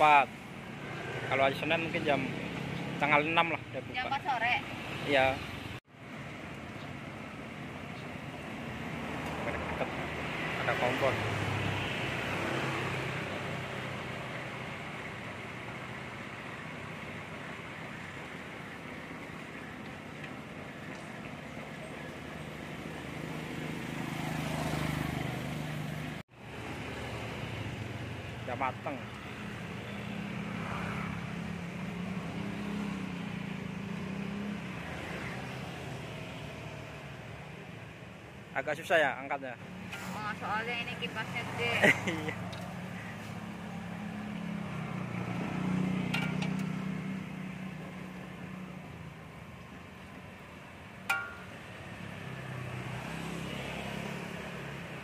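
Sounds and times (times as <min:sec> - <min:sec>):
vehicle engine hum passing: 0:07.2 - 0:37.7, 0:39.7 - 0:55.0.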